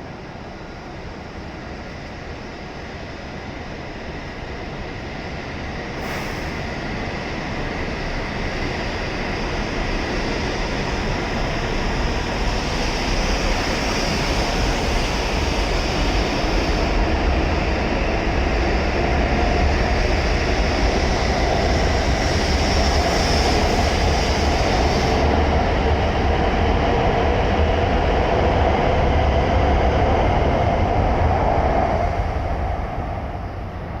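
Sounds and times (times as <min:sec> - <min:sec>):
high-speed train pulling out: 0:00.0 - 0:34.0.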